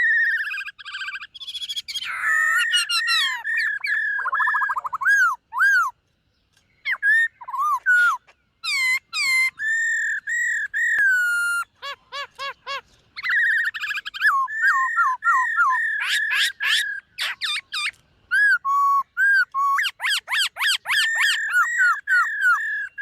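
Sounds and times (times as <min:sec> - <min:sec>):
bird singing whistled phrases: 0:00.0 - 0:06.0, 0:06.8 - 0:23.0.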